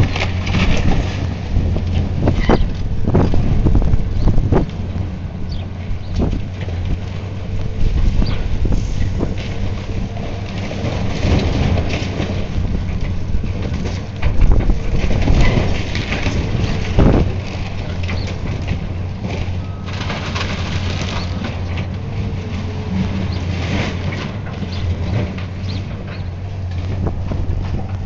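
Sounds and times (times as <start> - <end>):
debris crunching and crashing: 0.0 - 28.0
demolition machine diesel engine: 0.0 - 28.0.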